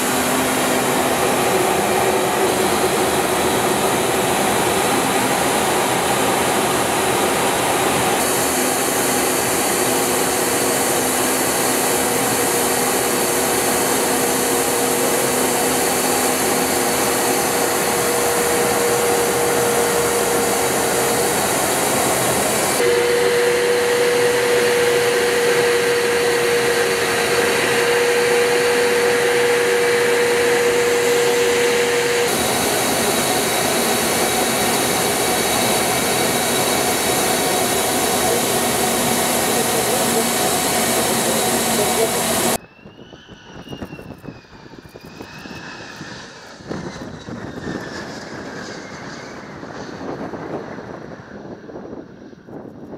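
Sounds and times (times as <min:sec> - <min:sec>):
jet aircraft roar: 0:00.0 - 0:52.9.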